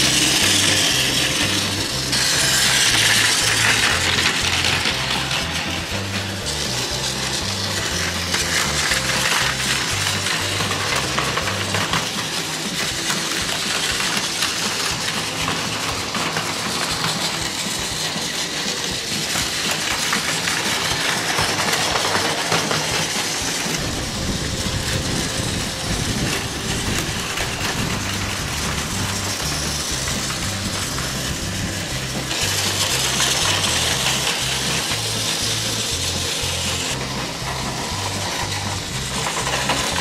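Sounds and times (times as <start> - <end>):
toy train motors whirring: 0.0 - 40.0
wheels clicking over rails: 0.0 - 40.0.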